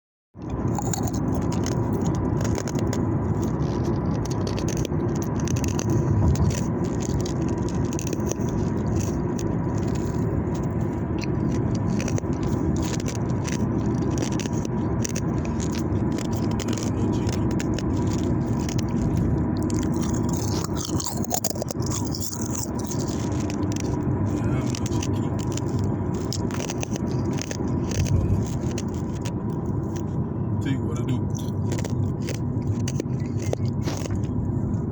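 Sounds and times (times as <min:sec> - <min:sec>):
ice being chewed: 0:00.4 - 0:34.9
steady low rumble: 0:00.4 - 0:34.9.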